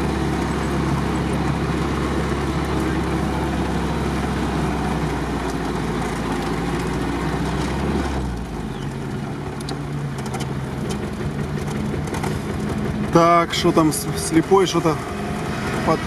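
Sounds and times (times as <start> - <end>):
driving through muddy puddle: 0.0 - 16.0
engine running at low speed: 0.0 - 16.0.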